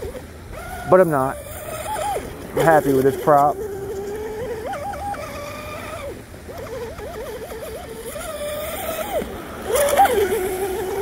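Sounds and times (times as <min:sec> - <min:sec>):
rc speedboat motor whining: 0:00.0 - 0:11.0.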